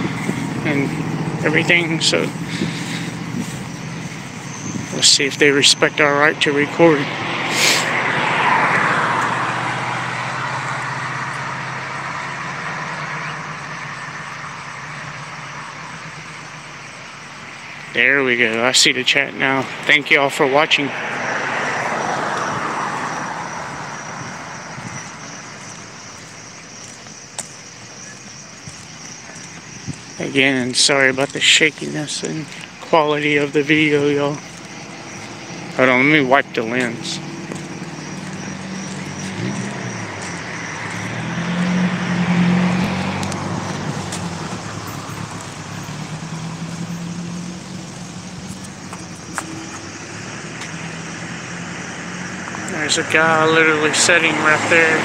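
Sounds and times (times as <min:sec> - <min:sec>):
car passing: 0:00.0 - 0:55.0
vehicle tyre and road noise: 0:00.0 - 0:55.0.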